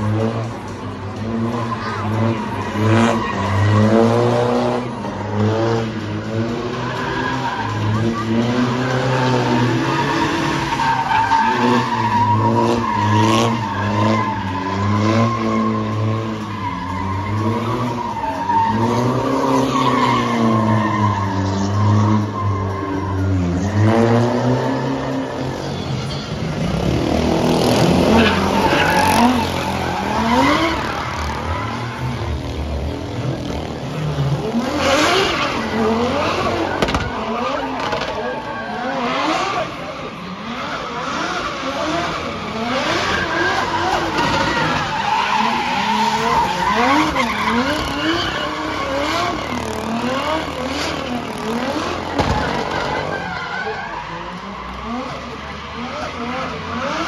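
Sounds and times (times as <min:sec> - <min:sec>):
car engines revving hard: 0:00.0 - 0:57.0
high tyre squeal: 0:00.0 - 0:57.0.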